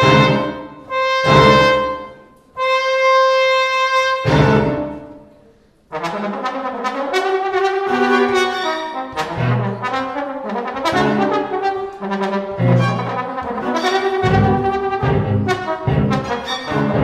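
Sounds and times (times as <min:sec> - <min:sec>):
trombone: 0:00.0 - 0:05.2, 0:05.9 - 0:17.0
string quartet playing: 0:00.0 - 0:05.5, 0:06.4 - 0:17.0.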